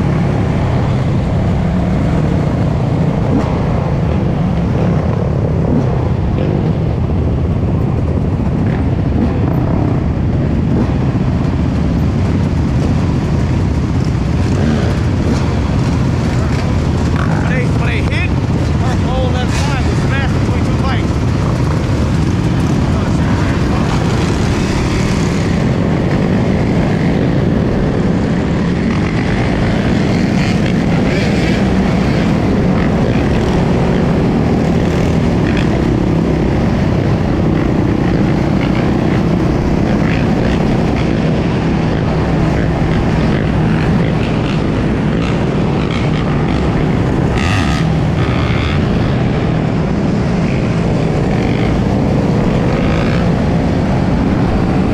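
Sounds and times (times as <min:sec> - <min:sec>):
dirt bike engines rumbling: 0:00.0 - 0:54.9.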